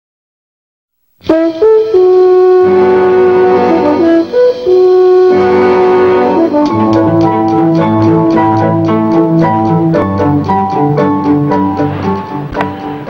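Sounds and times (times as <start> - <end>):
theme music with held chords: 1.3 - 13.0.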